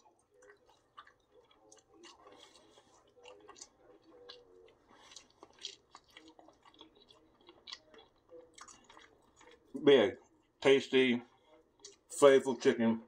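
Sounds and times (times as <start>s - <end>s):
faint chewing: 0.0s - 12.7s.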